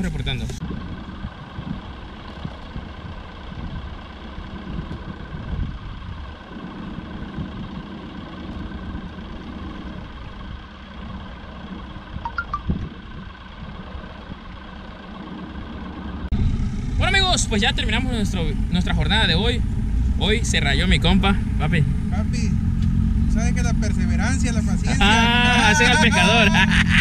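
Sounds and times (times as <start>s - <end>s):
boat motor humming: 0.0s - 27.0s.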